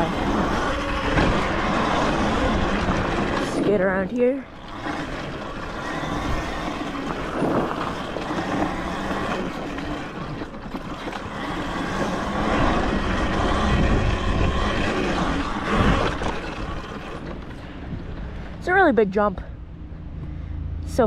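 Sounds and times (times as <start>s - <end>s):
wind over microphone: 0.0s - 18.7s
tyres on loose dirt: 0.0s - 19.2s.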